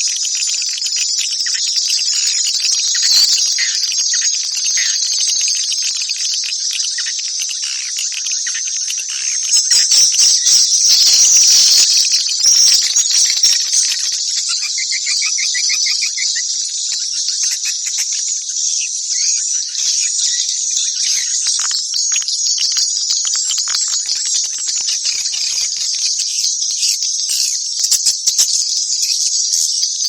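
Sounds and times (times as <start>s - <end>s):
high-pitched swiftlet twittering: 0.0s - 29.1s.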